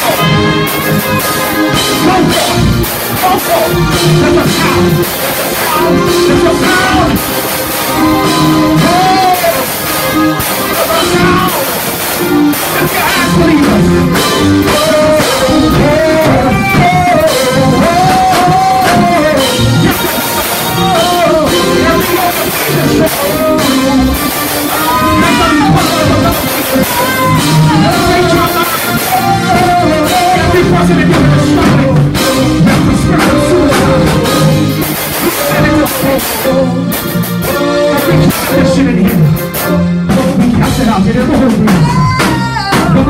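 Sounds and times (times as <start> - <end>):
band with drums and keyboard: 0.0 - 43.0
person singing: 0.0 - 43.0.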